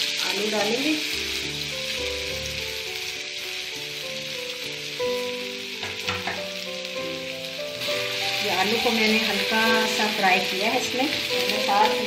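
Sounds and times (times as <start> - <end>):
background music of held notes: 0.0 - 12.0
potatoes sizzling in oil: 0.0 - 12.0.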